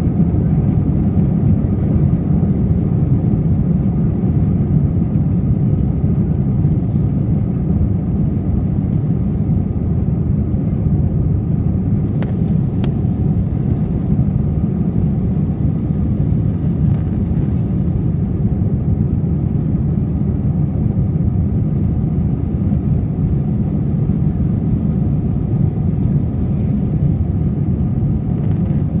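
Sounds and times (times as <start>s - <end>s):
jet engines roaring in cabin: 0.0s - 29.0s.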